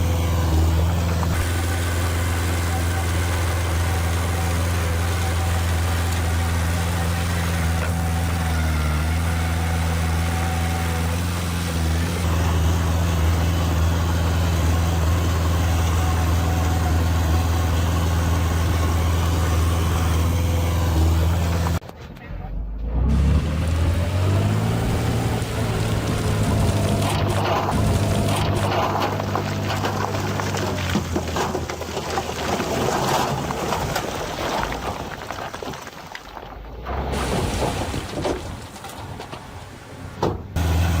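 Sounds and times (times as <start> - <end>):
heavy diesel engine running: 0.0 - 35.2, 39.4 - 41.0.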